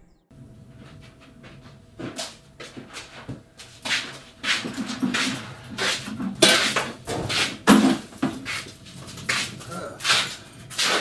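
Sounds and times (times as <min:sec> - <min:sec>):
footsteps and scuffs on floor: 0:00.4 - 0:11.0.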